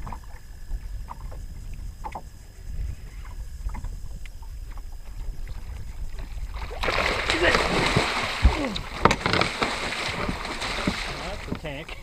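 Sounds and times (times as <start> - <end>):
water lapping at hull: 0.0 - 12.0
wind rumble on microphone: 0.0 - 12.0.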